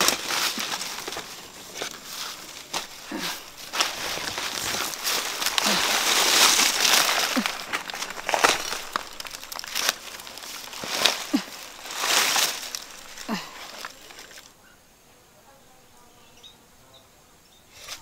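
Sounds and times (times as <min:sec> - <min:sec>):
banana stalk snapping: 0:00.0 - 0:14.5
dry leaves crinkling: 0:00.0 - 0:14.5.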